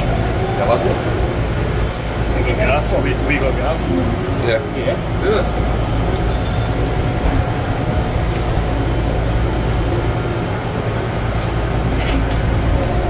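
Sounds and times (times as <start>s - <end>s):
low machine hum and rumble: 0.0s - 13.0s.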